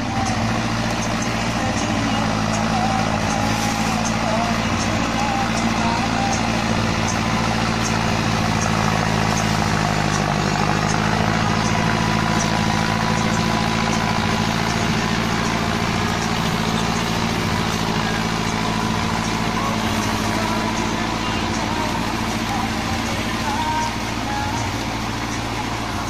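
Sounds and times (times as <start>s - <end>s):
rotavator churning soil: 0.0s - 26.0s
tractor diesel engine running: 0.0s - 26.0s.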